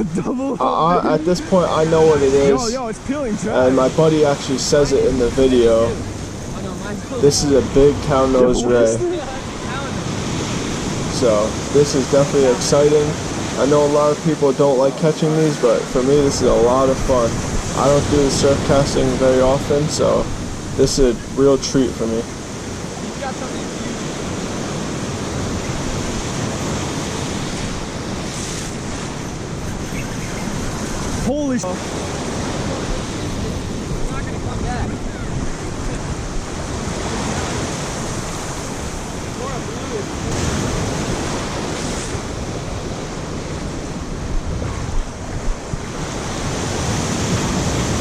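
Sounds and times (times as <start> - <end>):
ocean surf on a beach: 0.0 - 48.0
wind buffeting microphone: 0.0 - 48.0.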